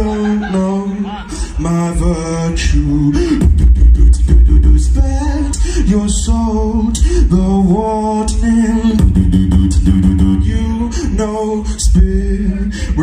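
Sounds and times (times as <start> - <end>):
person beatboxing: 0.0 - 13.0.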